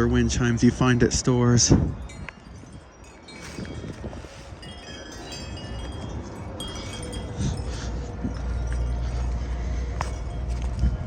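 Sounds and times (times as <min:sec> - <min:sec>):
gusty wind rushing: 0:00.0 - 0:08.9
wind chimes ringing: 0:00.9 - 0:11.0.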